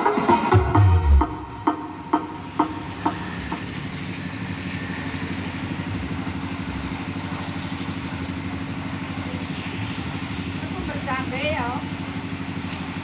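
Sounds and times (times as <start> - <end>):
engine idling: 0.5 - 13.0.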